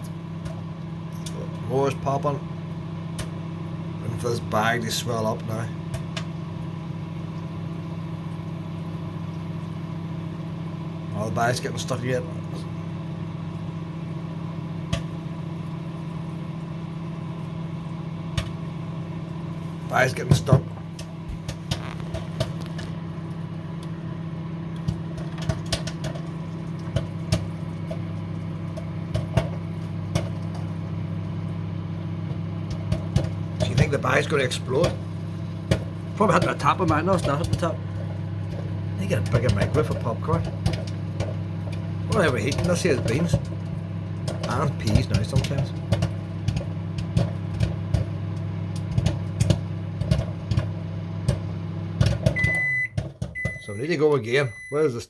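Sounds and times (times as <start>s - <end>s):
microwave oven humming: 0.0s - 55.0s
popcorn popping: 3.1s - 3.4s, 4.1s - 9.6s, 14.4s - 16.3s, 18.2s - 54.8s.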